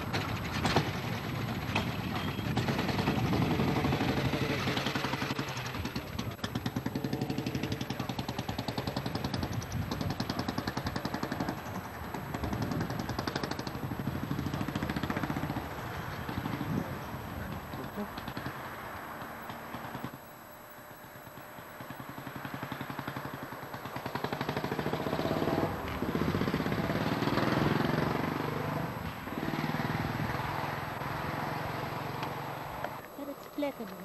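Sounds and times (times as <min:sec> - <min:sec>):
motorcycle engine pulling away: 0:00.0 - 0:20.3, 0:21.0 - 0:33.3.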